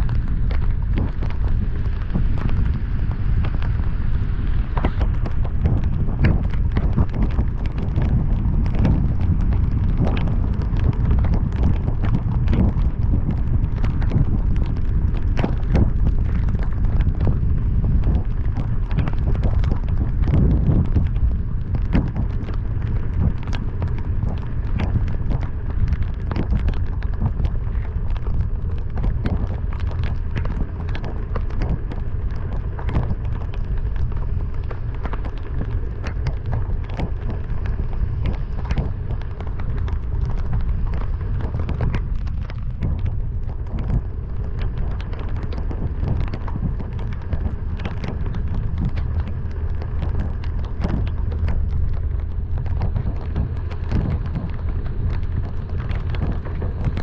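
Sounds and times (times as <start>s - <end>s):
car rumbling on wet road: 0.0s - 57.0s
heavy rain hitting a car: 0.0s - 57.0s.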